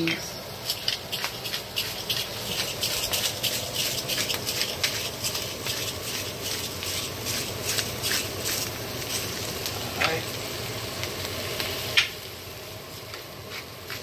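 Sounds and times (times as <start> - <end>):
vegetables sizzling in a skillet: 0.0 - 14.0.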